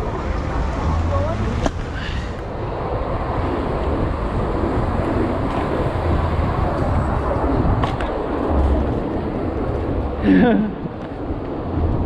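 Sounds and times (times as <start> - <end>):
bike tyres on street: 0.0 - 12.0
wind buffeting microphone: 0.0 - 12.0.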